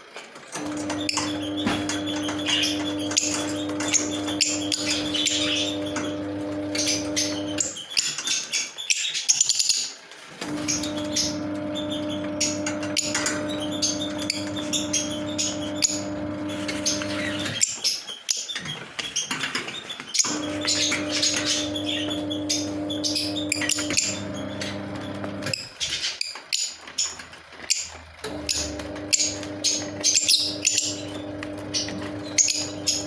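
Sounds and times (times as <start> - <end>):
birds chirping: 0.6 - 33.0.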